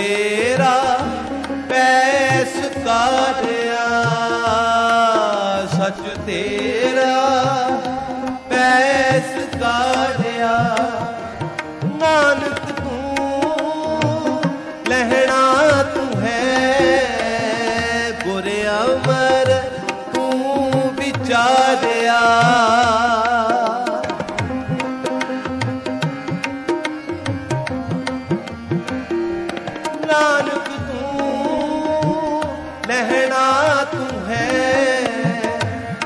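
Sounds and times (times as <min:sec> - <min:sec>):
tabla rhythm: 0:00.0 - 0:36.0.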